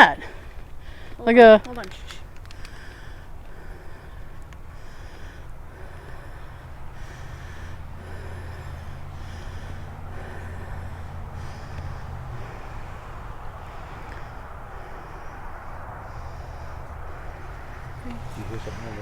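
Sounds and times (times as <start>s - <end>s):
vehicle rumble on road: 0.0s - 19.0s.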